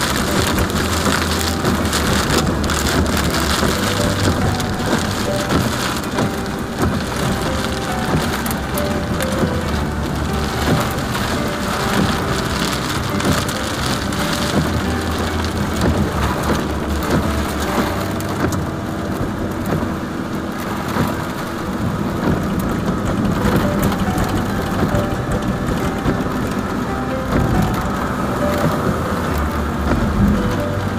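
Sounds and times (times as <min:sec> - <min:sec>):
heavy rain on car roof: 0:00.0 - 0:30.9.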